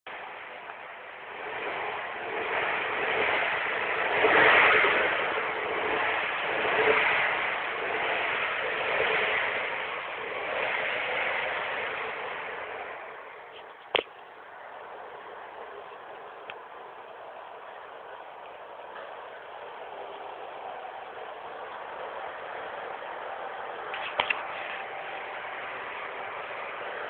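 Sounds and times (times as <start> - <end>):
car engine and exhaust running: 0.1 - 27.0.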